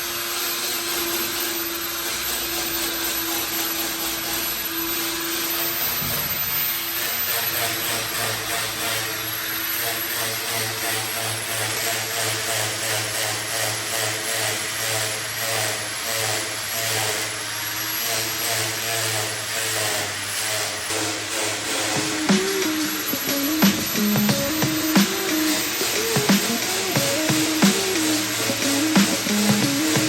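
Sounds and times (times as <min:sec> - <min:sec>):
power tool running with pulsing beat: 0:00.0 - 0:30.0.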